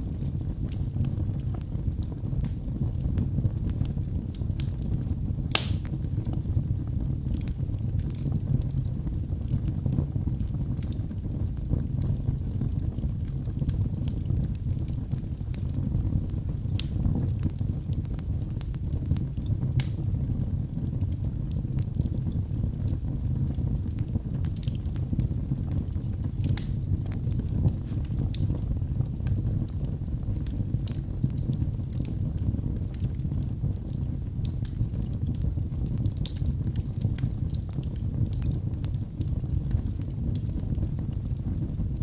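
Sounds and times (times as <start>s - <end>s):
fire crackling and popping: 0.0s - 42.0s
fire rumbling: 0.0s - 42.0s.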